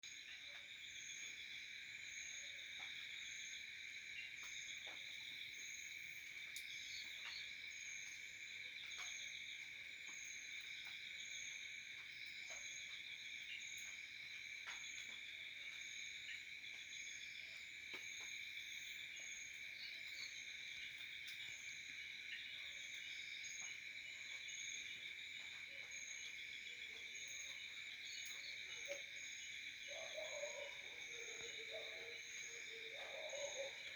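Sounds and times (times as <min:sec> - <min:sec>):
insects trilling: 0:00.1 - 0:33.9.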